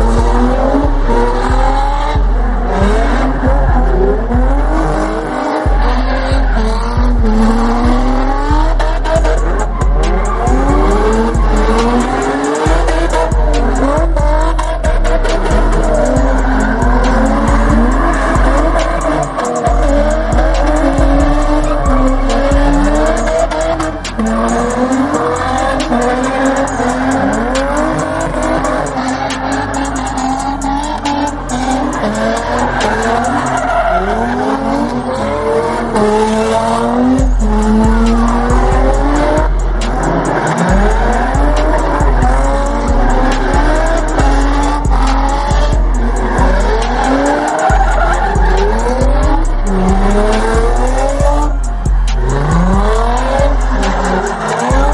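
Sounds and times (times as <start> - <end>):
bass-heavy music: 0.0 - 54.9
car engines revving: 0.0 - 54.9
tires screeching: 0.0 - 54.9.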